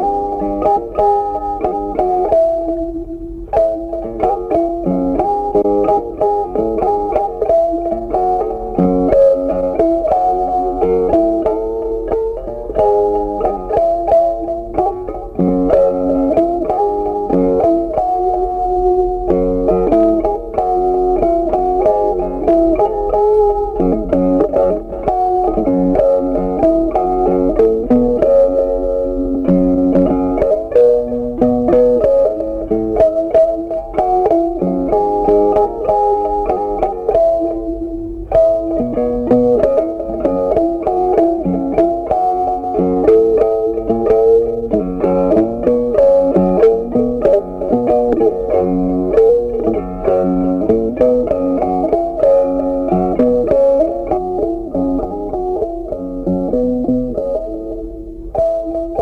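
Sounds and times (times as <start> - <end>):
plucked guitar melody: 0.0 - 59.0.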